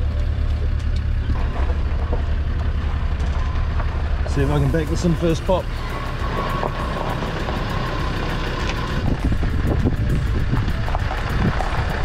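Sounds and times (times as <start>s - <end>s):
engine rumbling while reversing: 0.0s - 12.0s.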